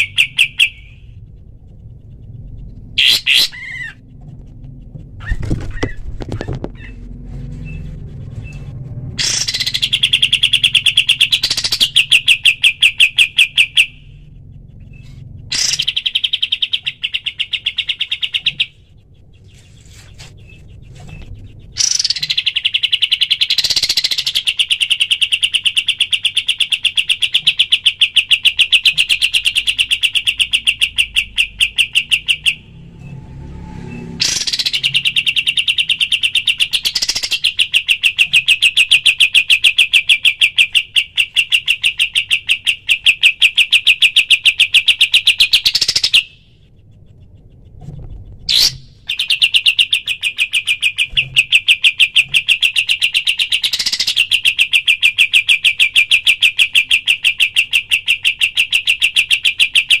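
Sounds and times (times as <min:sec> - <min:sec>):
songbird rapid repeated notes: 0:00.0 - 0:06.2, 0:06.8 - 0:32.8, 0:34.2 - 1:00.0.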